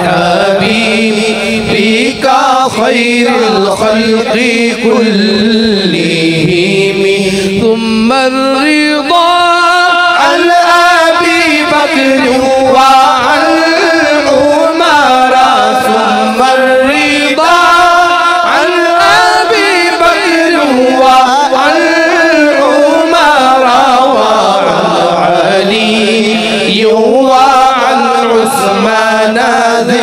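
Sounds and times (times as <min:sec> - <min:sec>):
person chanting devotional song: 0:00.0 - 0:30.0.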